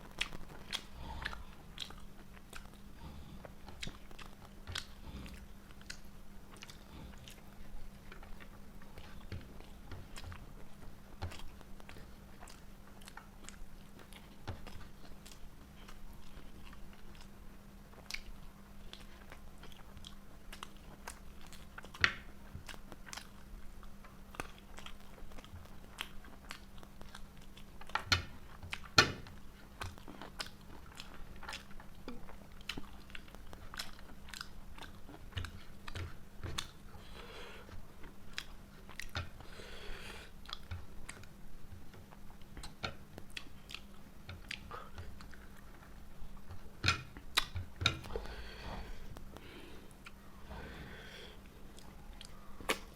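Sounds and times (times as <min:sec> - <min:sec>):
close chewing and mouth clicks: 0:00.0 - 0:50.5, 0:51.1 - 0:52.9.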